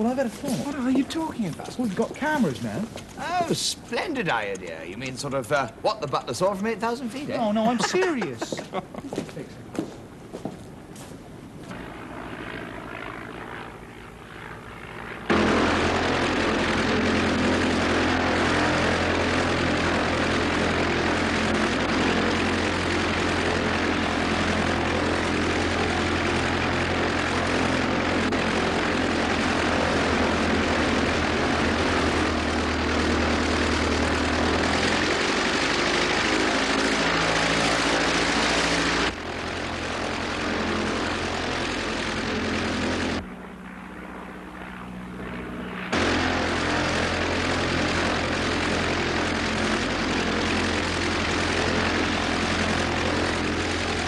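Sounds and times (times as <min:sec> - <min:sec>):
propeller plane engine in flight: 0:10.0 - 0:54.0.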